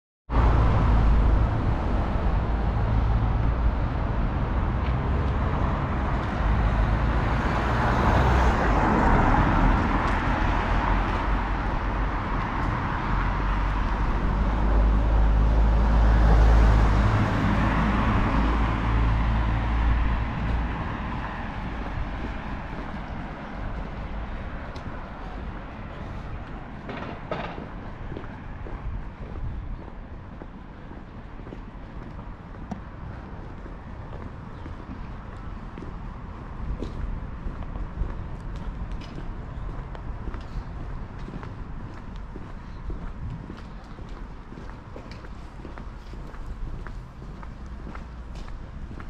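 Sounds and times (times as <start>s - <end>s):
traffic rumble: 0.3s - 49.0s
vehicles passing: 0.3s - 49.0s.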